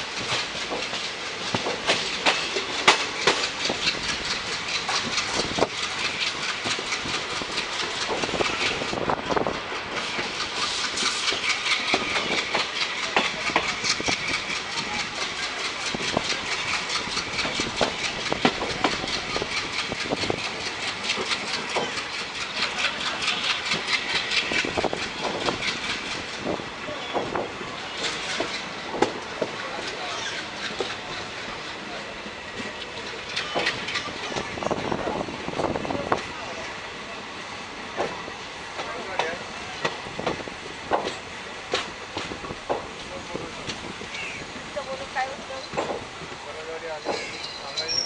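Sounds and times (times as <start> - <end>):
train wheels clattering on track: 0.0 - 48.0.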